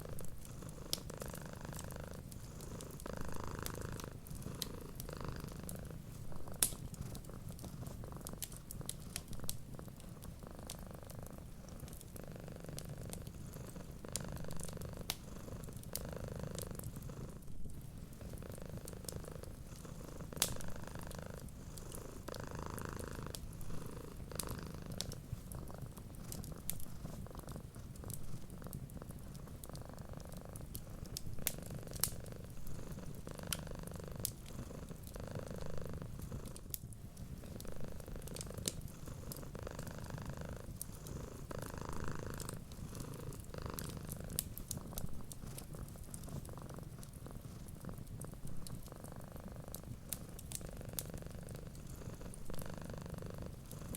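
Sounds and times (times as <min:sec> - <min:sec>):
cat purring: 0:00.0 - 0:53.9
wood fire crackling: 0:00.0 - 0:53.9.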